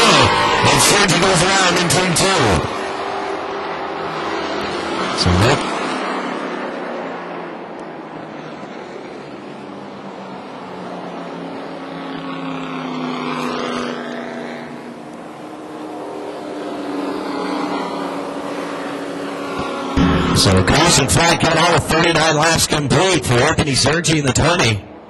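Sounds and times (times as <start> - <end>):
race truck engines passing: 0.0 - 25.0.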